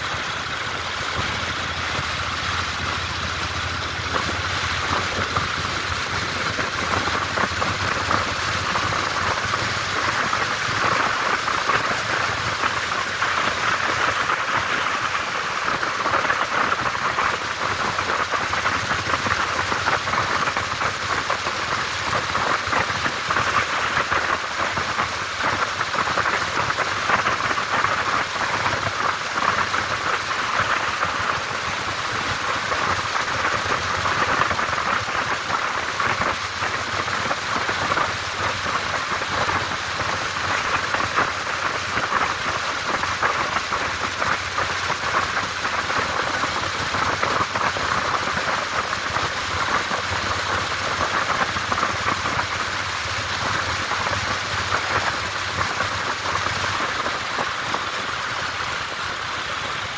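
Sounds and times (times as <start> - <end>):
motorcycle road noise: 0.0 - 59.9.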